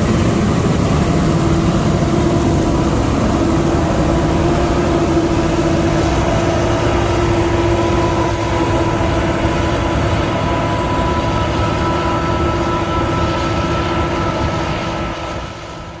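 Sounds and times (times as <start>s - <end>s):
combine harvester engine drone: 0.0s - 16.0s
steady machine whine: 0.0s - 16.0s.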